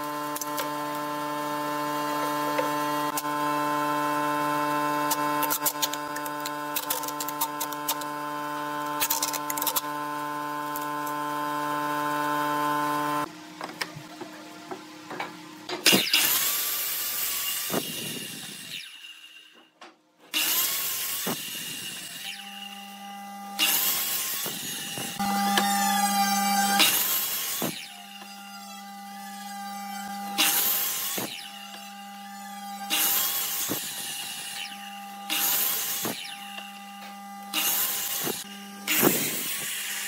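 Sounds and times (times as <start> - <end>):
miter saw motor whine: 0.0 - 13.4, 21.3 - 40.0.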